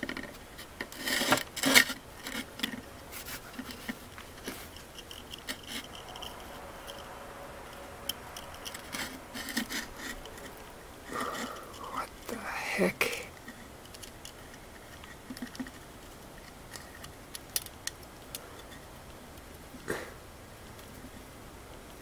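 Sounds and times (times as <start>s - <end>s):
light clicks and rubbing: 0.0s - 12.3s, 13.3s - 19.9s.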